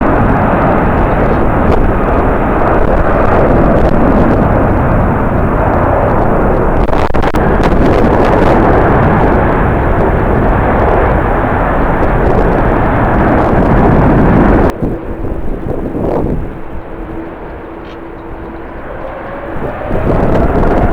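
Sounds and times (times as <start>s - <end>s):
jet engines roaring: 0.0s - 20.9s
wind buffeting microphone: 0.0s - 20.9s.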